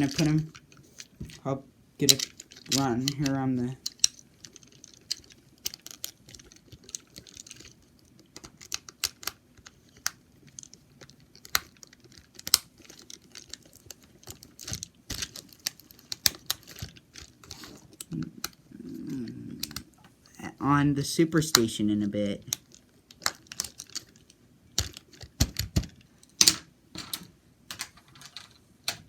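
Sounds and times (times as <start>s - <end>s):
plastic parts clicking and tapping: 0.0s - 20.1s, 21.5s - 21.8s, 22.4s - 29.0s.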